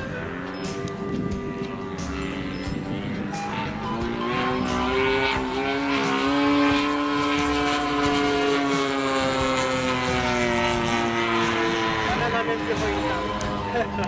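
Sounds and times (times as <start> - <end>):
model plane engine and propeller: 0.0 - 14.0.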